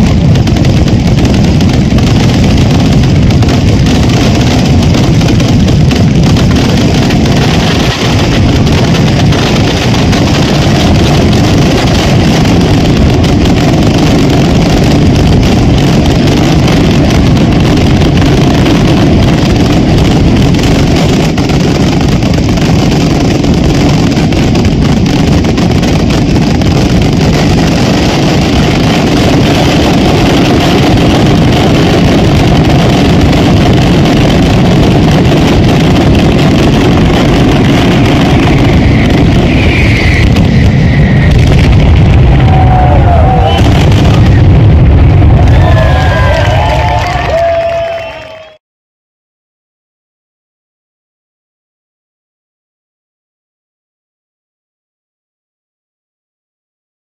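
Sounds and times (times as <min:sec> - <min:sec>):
firecrackers barrage: 0:00.0 - 0:48.6.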